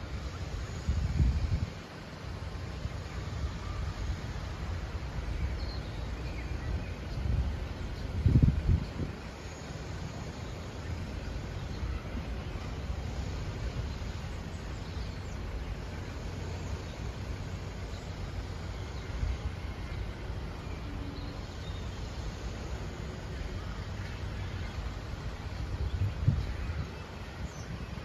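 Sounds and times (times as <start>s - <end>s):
faint hiss: 0.0s - 28.0s.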